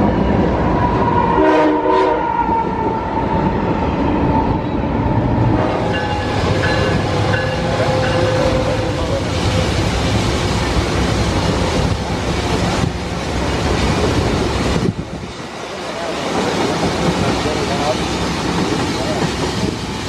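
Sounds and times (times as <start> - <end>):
train rolling past: 0.0 - 20.0.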